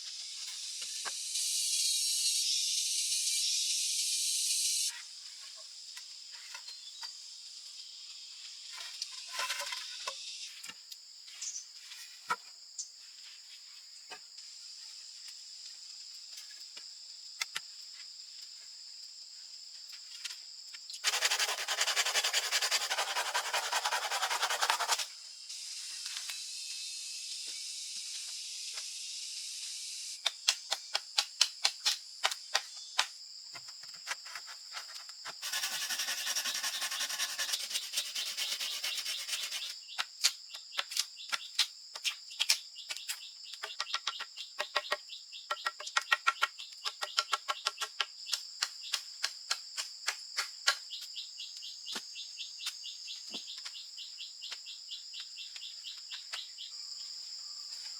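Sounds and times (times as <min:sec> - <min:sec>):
insects buzzing: 0:00.0 - 0:57.9.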